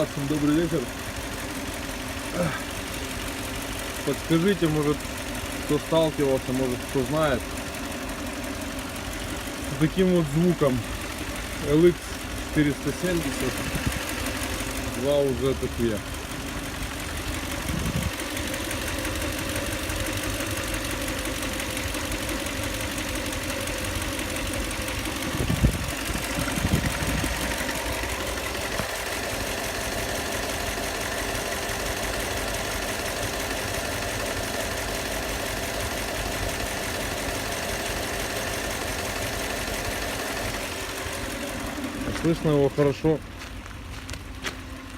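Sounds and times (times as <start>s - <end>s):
car engine idling with knock: 0.0s - 44.9s
louder engine thuds: 0.3s - 44.9s.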